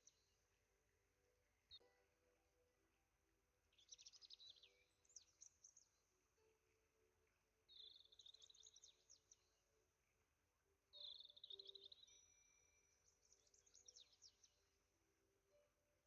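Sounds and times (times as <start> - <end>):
faint bird chirps and trills: 0.0 - 16.0.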